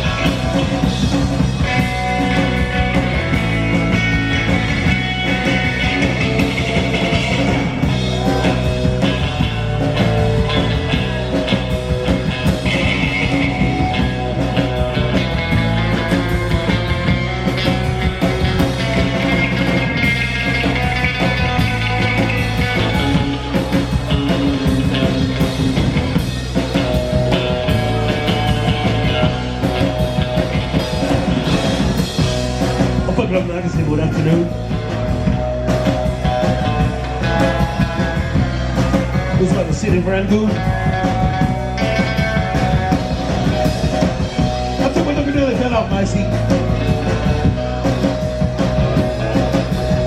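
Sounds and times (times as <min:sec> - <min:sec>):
bass guitar: 0:00.0 - 0:50.0
electric guitar: 0:00.0 - 0:50.0
steady drums: 0:00.0 - 0:50.0.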